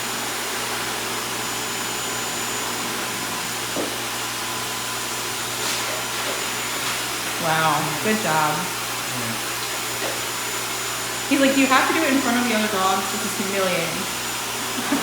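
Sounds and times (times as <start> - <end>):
blow dryer running: 0.0 - 15.0.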